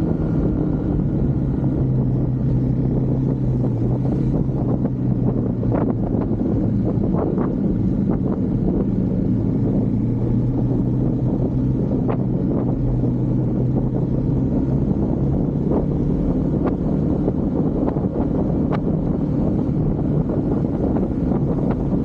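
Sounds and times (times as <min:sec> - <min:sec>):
motorcycle engine running: 0:00.0 - 0:22.0
wind on microphone: 0:00.0 - 0:22.0.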